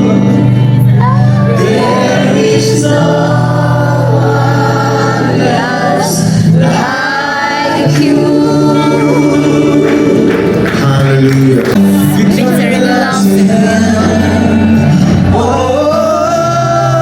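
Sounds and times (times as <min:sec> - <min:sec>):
choir singing gospel: 0:00.0 - 0:17.0.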